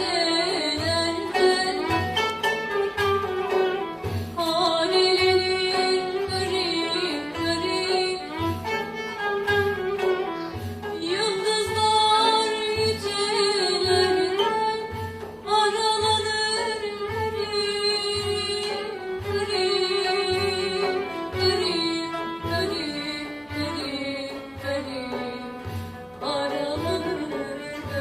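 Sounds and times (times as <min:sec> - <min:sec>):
bowed and plucked strings melody: 0:00.0 - 0:28.0
steady low drum beat: 0:00.0 - 0:28.0.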